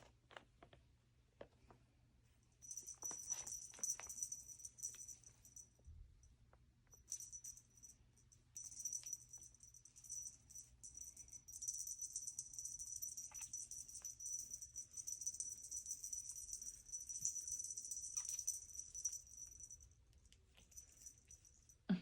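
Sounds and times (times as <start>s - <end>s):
small bell jingling: 2.6s - 6.0s, 6.9s - 21.9s.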